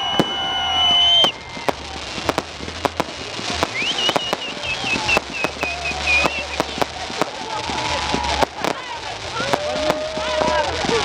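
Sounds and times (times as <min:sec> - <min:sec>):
firework cracks and pops: 0:00.0 - 0:11.0
firework whistles: 0:00.0 - 0:11.0.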